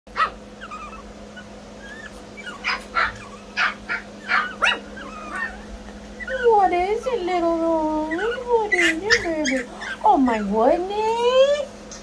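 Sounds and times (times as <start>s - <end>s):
puppies yapping: 0.1s - 10.2s
puppies whining: 0.1s - 10.4s.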